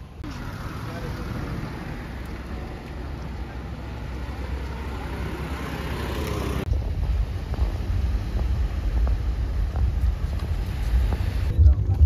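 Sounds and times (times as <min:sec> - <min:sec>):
road traffic: 0:00.0 - 0:12.0
vehicle approaching: 0:00.0 - 0:12.0.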